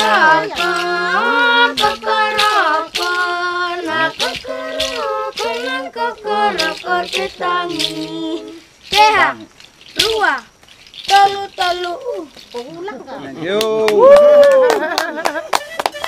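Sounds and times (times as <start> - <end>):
girls singing unaccompanied: 0.0 - 13.1.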